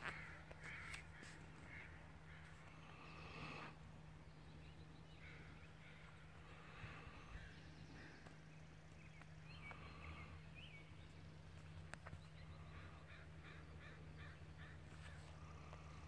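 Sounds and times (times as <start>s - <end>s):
faint bird calls: 0.0s - 16.0s
low steady hum: 0.0s - 16.0s.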